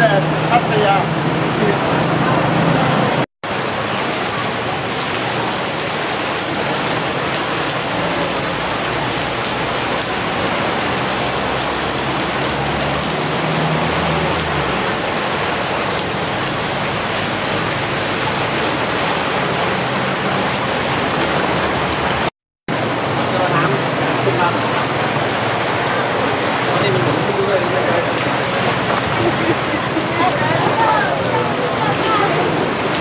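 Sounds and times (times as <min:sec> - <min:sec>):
rain and floodwater rushing: 0:00.0 - 0:33.0.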